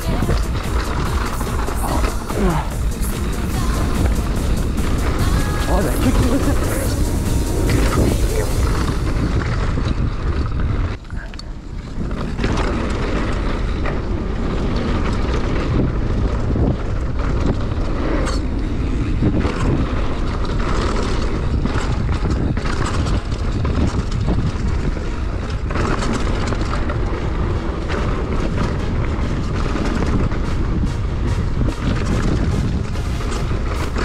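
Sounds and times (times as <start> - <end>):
bike rattling and knocking: 0.0 - 34.0
wind and tyre noise: 0.0 - 34.0.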